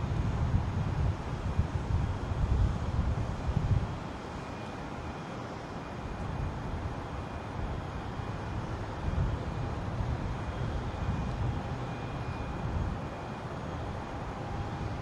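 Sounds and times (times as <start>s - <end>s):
wind buffeting microphone: 0.0s - 4.3s, 6.2s - 15.0s.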